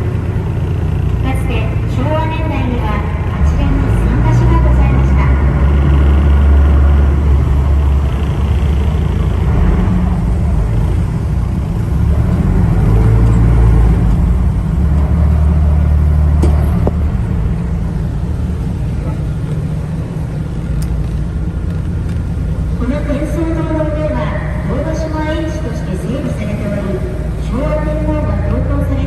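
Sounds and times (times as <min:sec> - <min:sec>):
boat engine rumbling: 0:00.0 - 0:29.0.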